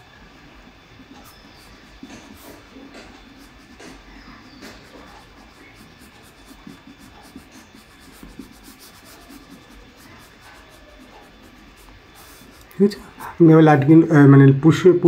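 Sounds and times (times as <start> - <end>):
crayon rubbing on paper: 1.1 - 13.4.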